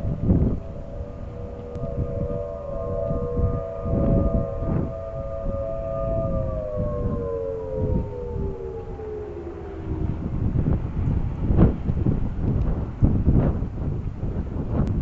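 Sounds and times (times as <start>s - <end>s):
distant warning sirens winding down: 0.0s - 13.3s
wind rumble on microphone: 0.0s - 15.0s.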